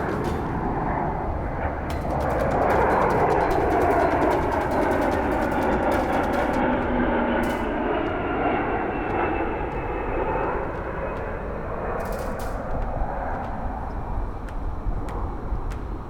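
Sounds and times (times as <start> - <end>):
airplane engines droning overhead: 0.0 - 16.0.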